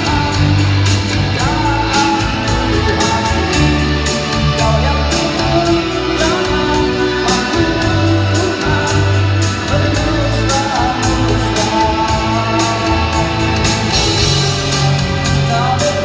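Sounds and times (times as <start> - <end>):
person singing: 0.0 - 16.0
rock band playing: 0.0 - 16.0.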